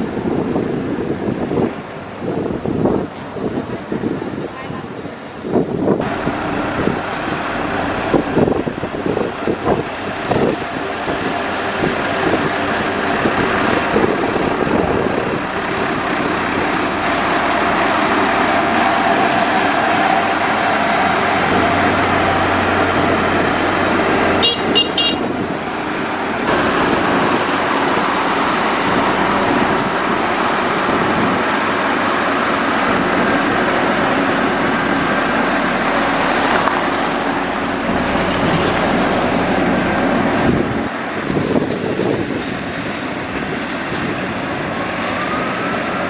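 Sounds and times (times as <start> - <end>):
diesel engine running under load: 0.0 - 46.0.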